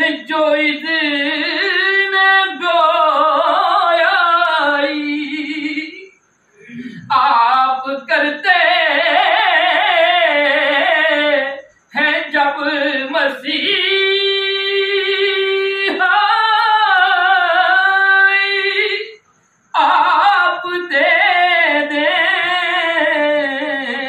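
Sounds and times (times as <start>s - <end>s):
man singing unaccompanied: 0.0s - 6.2s, 6.9s - 24.0s.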